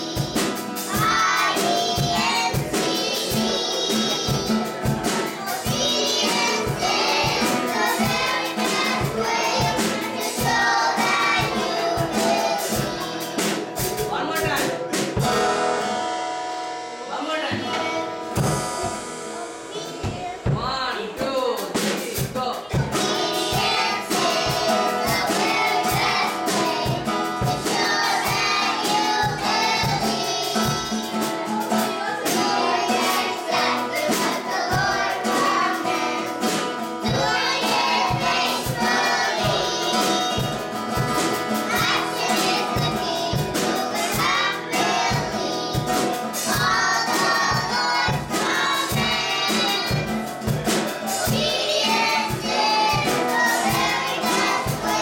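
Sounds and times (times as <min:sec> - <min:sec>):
children singing together: 0:00.0 - 0:17.0, 0:17.6 - 0:55.0
instrumental music with steady beat: 0:00.0 - 0:55.0.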